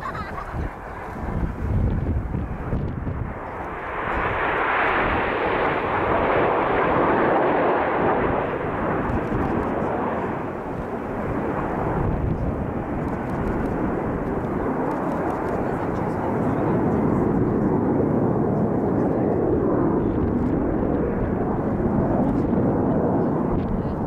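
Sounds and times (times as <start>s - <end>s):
jets flying past: 0.0s - 24.0s.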